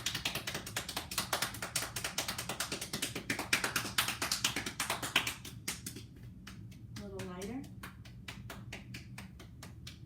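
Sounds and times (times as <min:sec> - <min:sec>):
palms slapping legs: 0:00.0 - 0:10.0.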